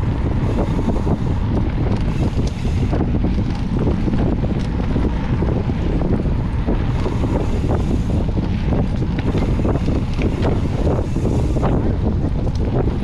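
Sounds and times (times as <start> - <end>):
bike clicks and rattles: 0.0 - 13.0
bike tyres rolling on dirt: 0.0 - 13.0
wind buffeting microphone: 0.0 - 13.0.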